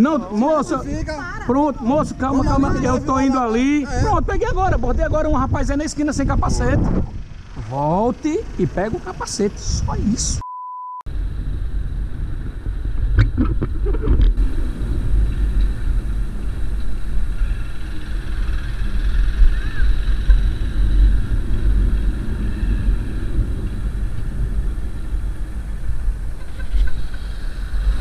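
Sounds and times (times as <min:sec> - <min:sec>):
wind rumble on microphone: 0:00.5 - 0:07.6, 0:08.8 - 0:10.4, 0:11.1 - 0:28.0
motorcycle running: 0:01.0 - 0:10.3, 0:11.1 - 0:28.0.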